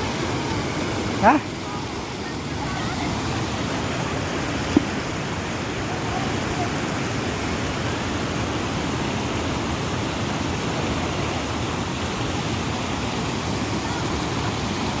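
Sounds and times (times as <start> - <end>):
fast-flowing water rushing: 0.0 - 15.0.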